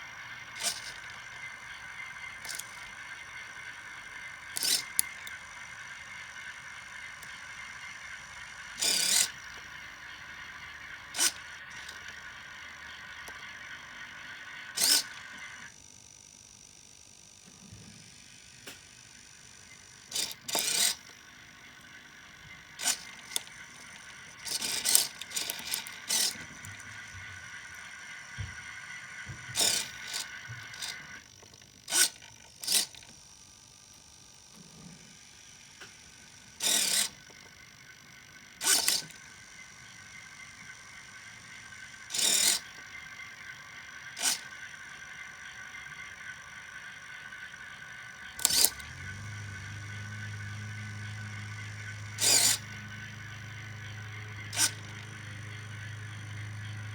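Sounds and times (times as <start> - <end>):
small geared motor whine: 0.0 - 56.9.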